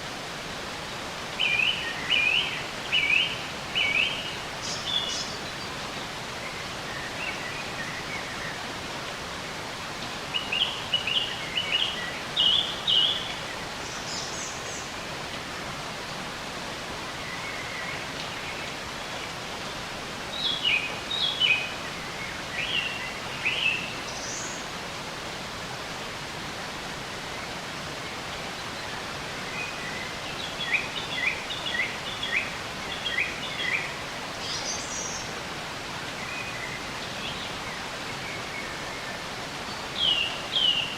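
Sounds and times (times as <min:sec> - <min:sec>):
hiss of running water: 0:00.0 - 0:40.9.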